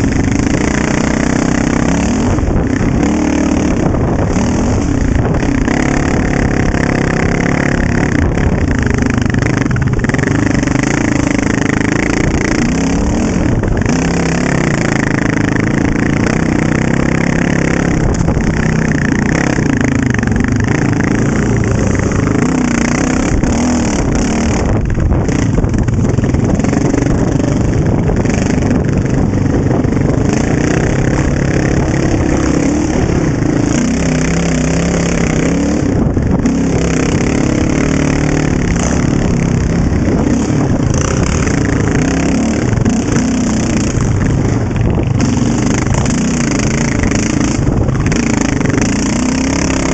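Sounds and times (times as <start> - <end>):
quad engine revving: 0.0 - 49.9.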